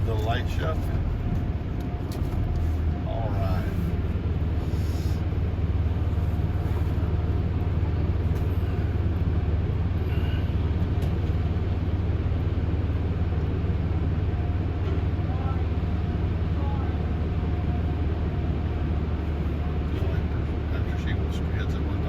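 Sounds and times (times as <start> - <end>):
low rumble inside truck cab: 0.0 - 22.0.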